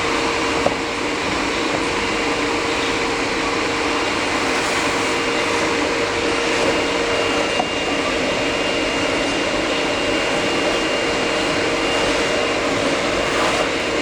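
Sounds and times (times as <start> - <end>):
wood router spindle whining: 0.0 - 14.0.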